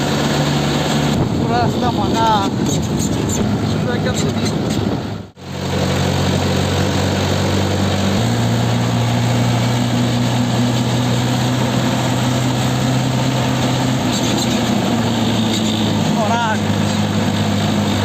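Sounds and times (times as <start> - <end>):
diesel tractor engine droning: 0.0 - 18.0.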